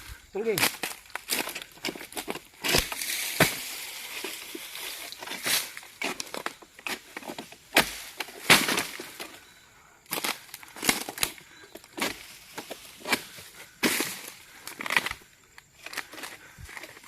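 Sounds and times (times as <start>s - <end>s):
foliage rustling: 0.0s - 17.0s
branches snapping and cracking: 0.4s - 17.0s.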